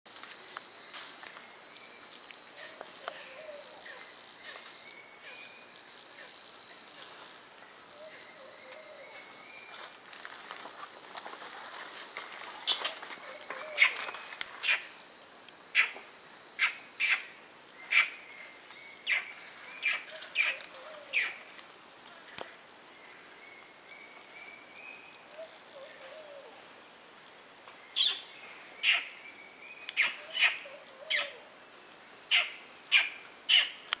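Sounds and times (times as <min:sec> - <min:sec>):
high insect drone: 0:00.1 - 0:34.0.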